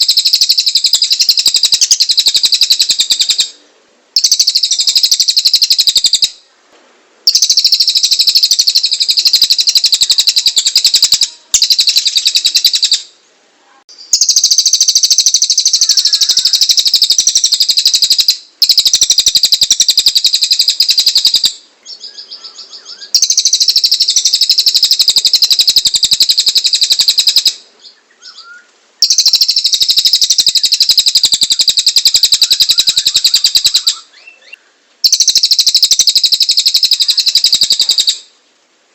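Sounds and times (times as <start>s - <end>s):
songbird rasping trills: 0.0s - 3.6s, 4.2s - 6.5s, 7.3s - 13.1s, 14.0s - 38.3s.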